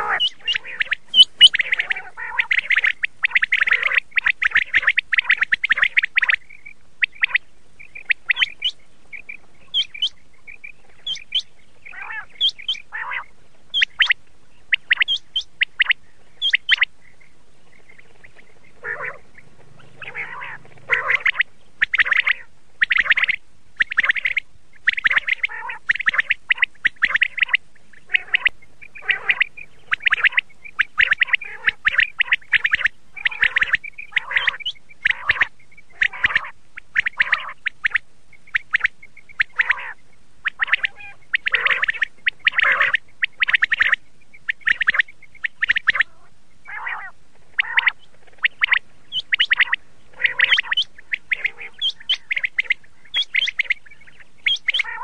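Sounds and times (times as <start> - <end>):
quail calling: 0.0 - 55.0.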